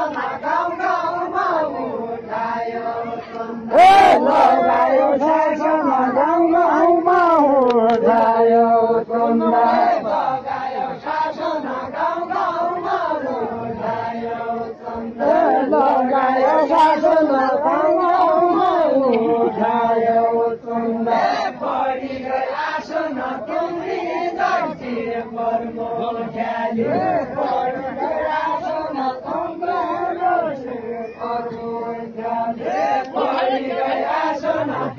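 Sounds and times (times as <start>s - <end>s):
crowd chanting a folk song: 0.0s - 34.9s.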